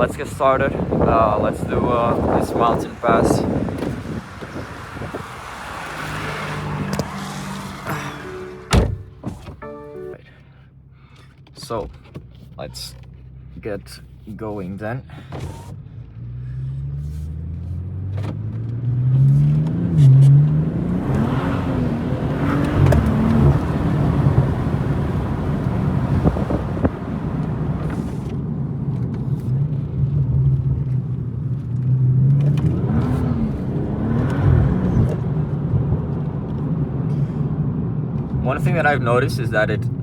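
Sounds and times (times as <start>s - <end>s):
car engine accelerating: 0.0s - 10.2s, 15.7s - 39.0s
road and tyre noise: 0.0s - 40.0s.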